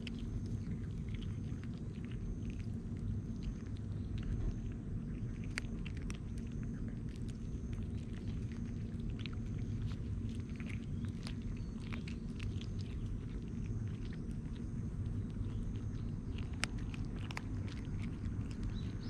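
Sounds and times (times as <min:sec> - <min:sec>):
cats crunching dry kibble: 0:00.0 - 0:19.0
steady low rumble: 0:00.0 - 0:19.0.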